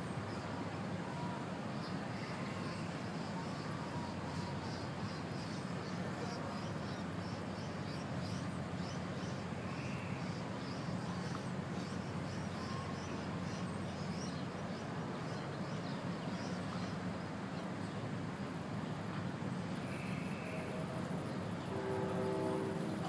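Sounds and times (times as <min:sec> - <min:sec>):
low waterfront rumble: 0:00.0 - 0:23.0.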